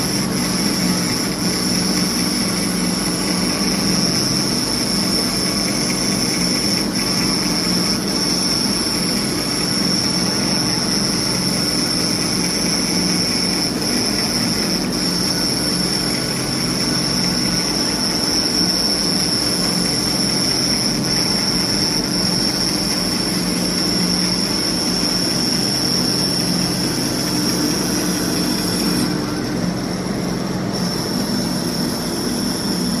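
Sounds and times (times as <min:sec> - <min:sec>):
foam cutter humming and whining: 0:00.0 - 0:33.0.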